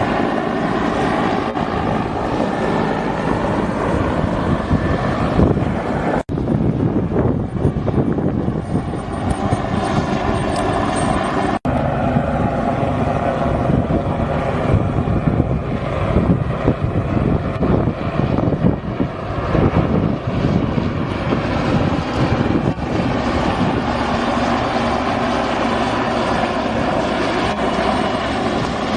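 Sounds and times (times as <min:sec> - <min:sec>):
helicopter rotor and engine noise: 0:00.0 - 0:28.9.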